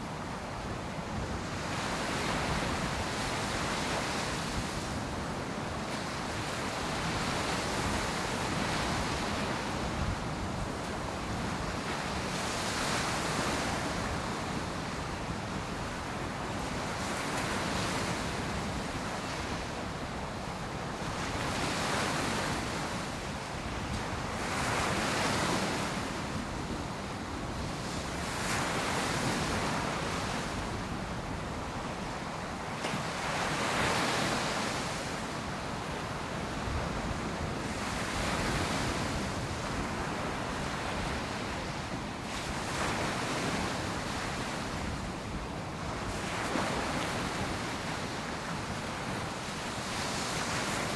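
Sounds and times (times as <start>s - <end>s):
waves breaking on a beach: 0.0s - 50.9s.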